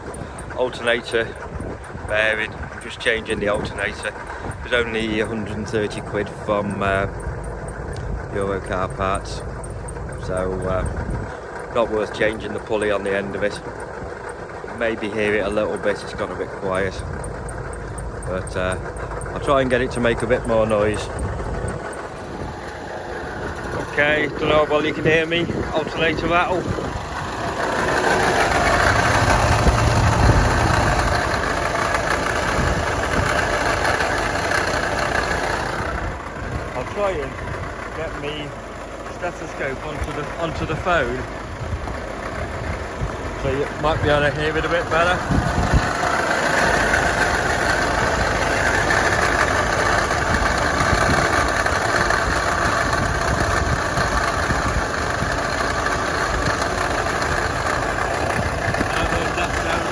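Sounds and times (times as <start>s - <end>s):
alternator rattle: 0.0s - 59.9s
diesel engine idling: 0.0s - 59.9s.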